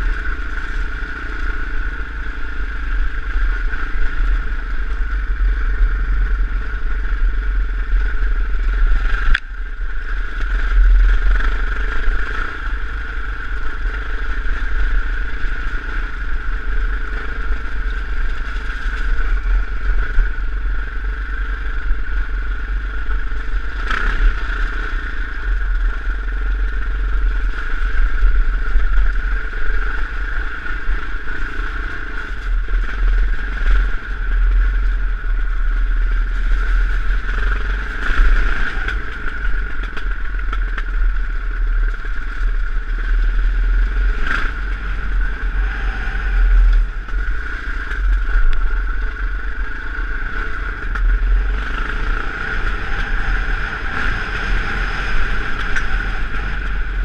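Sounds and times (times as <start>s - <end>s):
bike rattling: 0.0s - 57.0s
dirt bike engine running: 0.0s - 57.0s.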